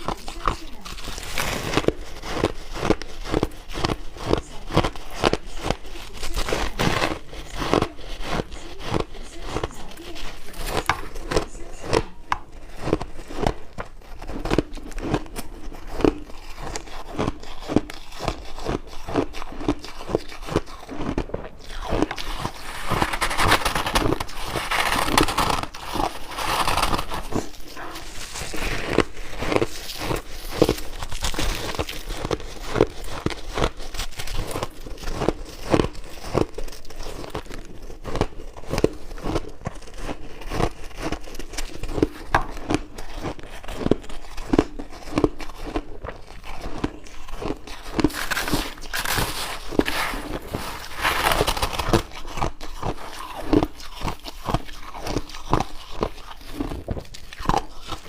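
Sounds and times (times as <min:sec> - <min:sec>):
person crunching shaved ice: 0:00.0 - 0:58.0.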